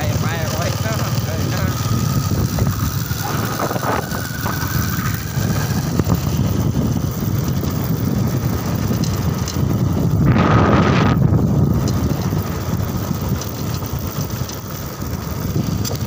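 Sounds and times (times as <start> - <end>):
rush of noise: 0.0 - 13.2
vehicle engine and road rumble: 0.0 - 16.0.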